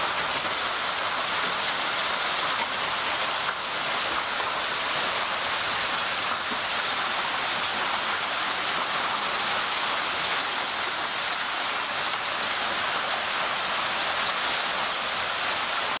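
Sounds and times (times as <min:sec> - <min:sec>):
hailstones falling on ground: 0:00.0 - 0:15.1.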